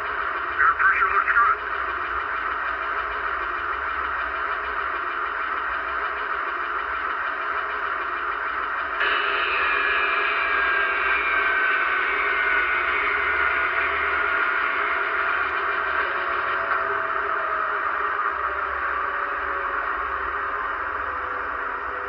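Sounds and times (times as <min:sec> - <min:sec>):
turbine whine through small speaker: 0:00.0 - 0:22.0.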